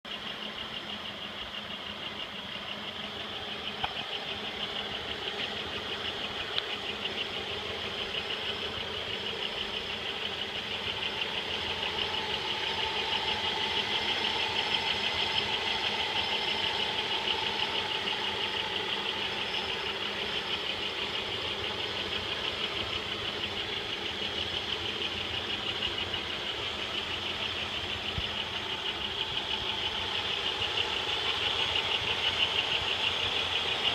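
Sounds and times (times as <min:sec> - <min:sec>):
car engine running: 0:00.0 - 0:33.9
high-pitched rhythmic engine noise: 0:00.0 - 0:33.9.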